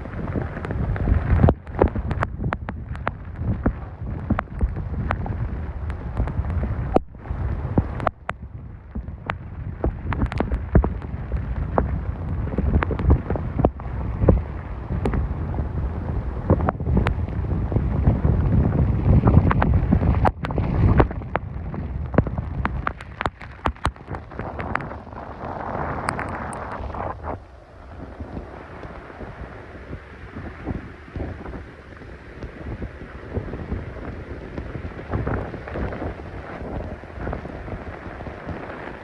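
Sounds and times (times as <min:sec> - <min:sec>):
heavy rain: 0:00.0 - 0:39.0
wind buffeting microphone: 0:00.0 - 0:39.0.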